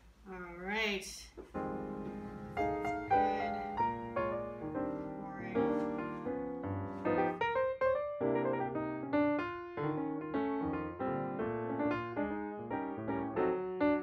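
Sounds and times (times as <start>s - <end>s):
piano music: 1.5s - 14.0s.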